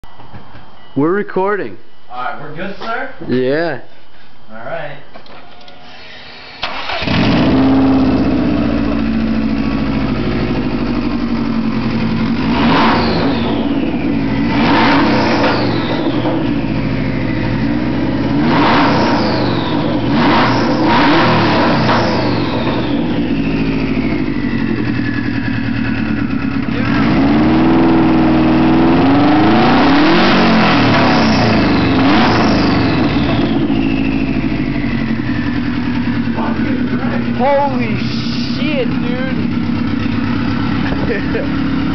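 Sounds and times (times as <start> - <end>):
car engine starting and revving: 5.8 - 41.9.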